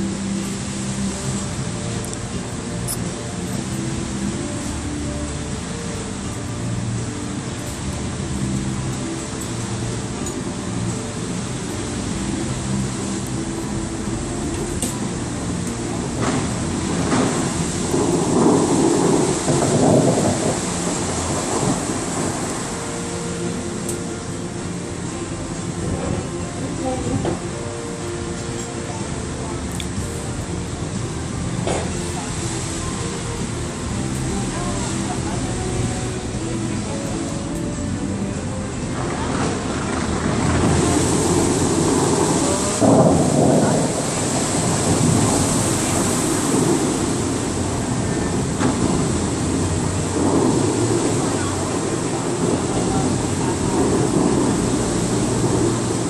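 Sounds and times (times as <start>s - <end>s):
fountain jets bursting: 0.0s - 56.0s
water rushing and falling: 0.0s - 56.0s.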